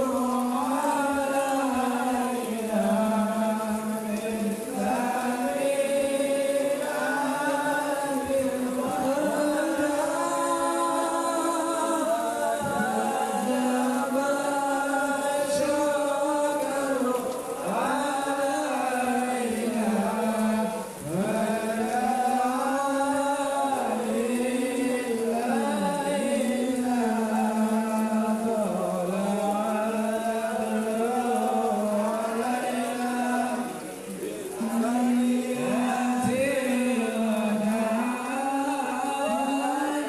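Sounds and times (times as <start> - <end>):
voices chanting devotional song: 0.0 - 40.0.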